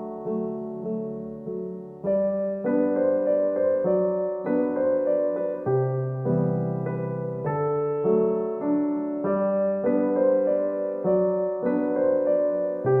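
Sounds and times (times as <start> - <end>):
electric piano chords: 0.0 - 13.0.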